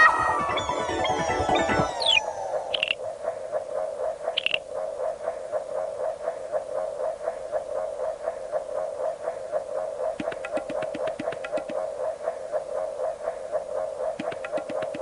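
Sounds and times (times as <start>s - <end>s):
rapidly pulsing synth tone: 0.0s - 15.0s.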